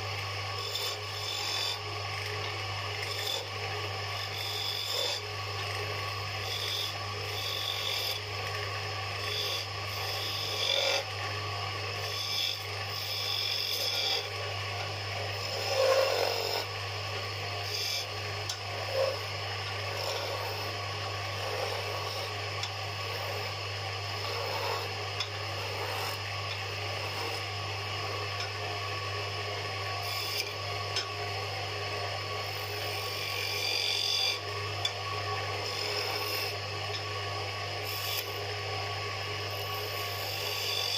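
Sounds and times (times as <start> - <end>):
tool scraping spinning wood: 0.0 - 37.1, 37.8 - 38.6, 39.4 - 40.9
lathe motor hum: 0.0 - 40.9.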